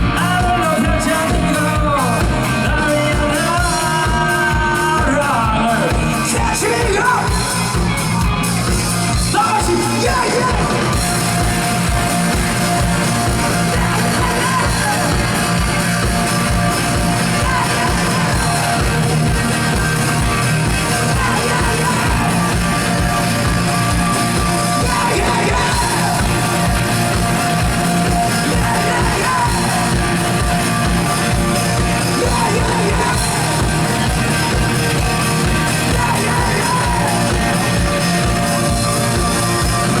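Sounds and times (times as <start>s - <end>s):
person singing lead vocal: 0.0s - 8.3s, 9.1s - 40.0s
drum beat: 0.0s - 40.0s
live rock band playing: 0.0s - 40.0s.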